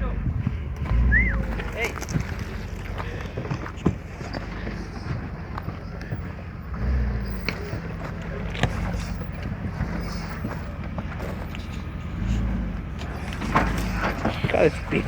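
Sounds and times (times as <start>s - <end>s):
off-road engine revving: 0.0s - 15.0s
vehicle knocks and clunks: 0.0s - 15.0s.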